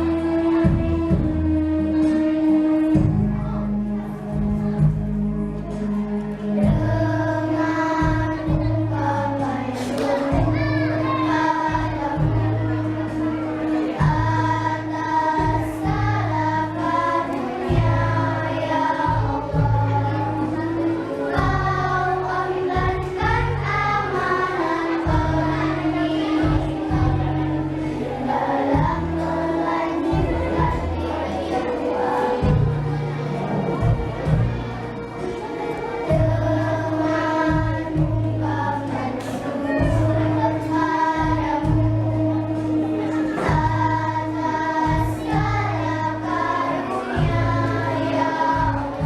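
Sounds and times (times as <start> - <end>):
backing accompaniment with bass: 0.0 - 49.0
children's choir singing: 0.0 - 49.0.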